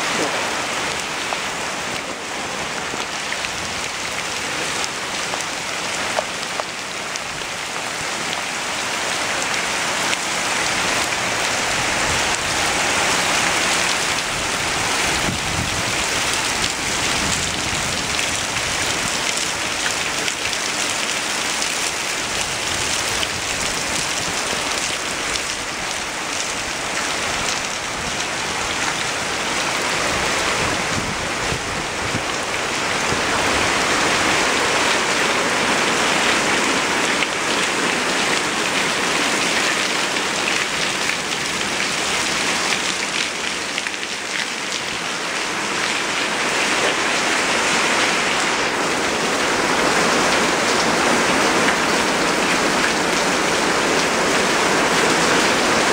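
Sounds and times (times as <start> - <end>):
heavy rain on stone pavers: 0.0 - 55.9.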